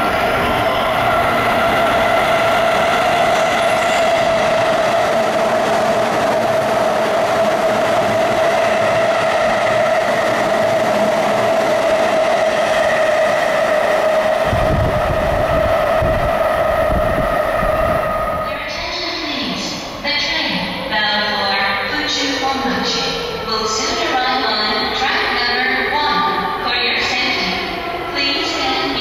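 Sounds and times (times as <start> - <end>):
train rail noise: 0.0 - 29.0
train whine: 0.0 - 29.0.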